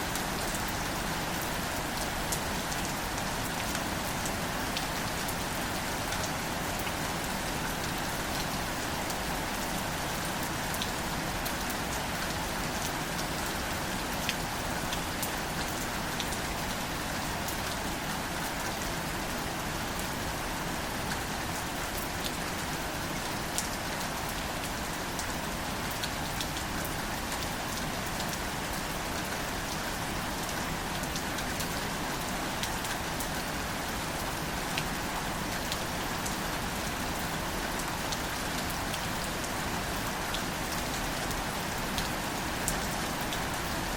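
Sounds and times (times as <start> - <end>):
rain falling on flowers: 0.0 - 43.9
sharp ticks of raindrops: 0.0 - 43.9.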